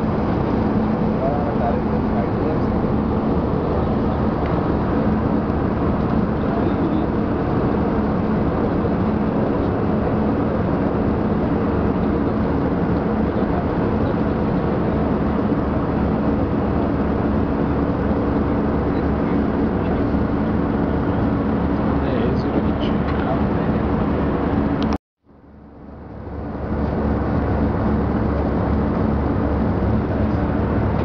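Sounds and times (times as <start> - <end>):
jet engine and airflow rush: 0.0 - 31.0
low steady hum: 0.0 - 31.0.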